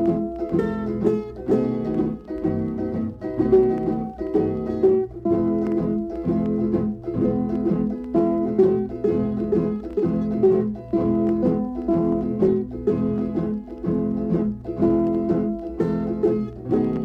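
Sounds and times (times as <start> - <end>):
plucked strings playing hymn: 0.0 - 17.0.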